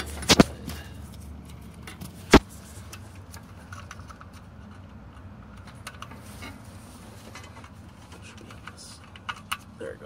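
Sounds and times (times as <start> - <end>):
ignition wires clicking and rattling: 0.0 - 10.0.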